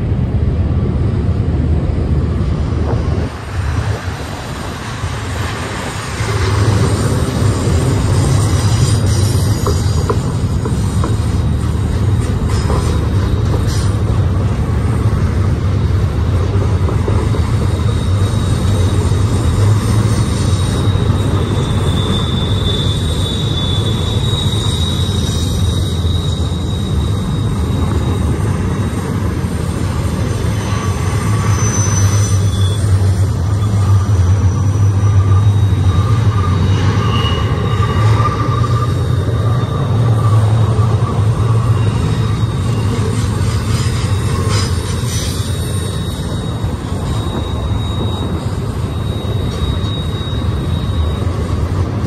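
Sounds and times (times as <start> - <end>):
steel wheels rumbling on rail: 0.0 - 52.0
high-pitched wheel squeals: 4.9 - 14.2, 16.7 - 52.0.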